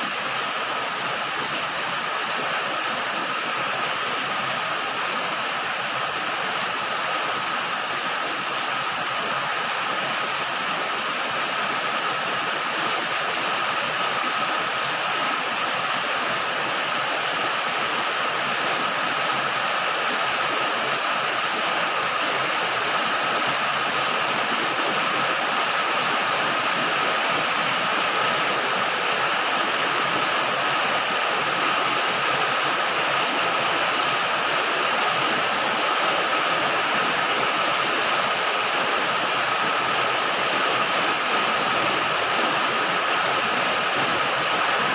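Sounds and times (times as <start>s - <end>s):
rain on a metal roof: 0.0s - 44.9s.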